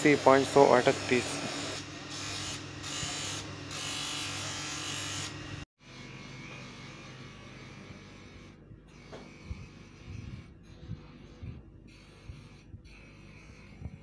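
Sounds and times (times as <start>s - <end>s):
mechanical buzz: 0.0s - 14.0s.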